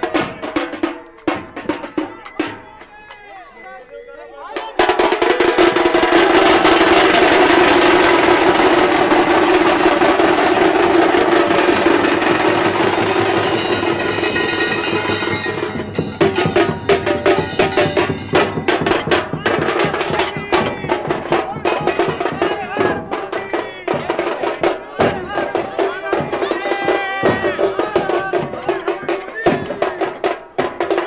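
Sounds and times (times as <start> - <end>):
dhol drums playing fast beat: 0.0 - 3.4, 4.5 - 31.0.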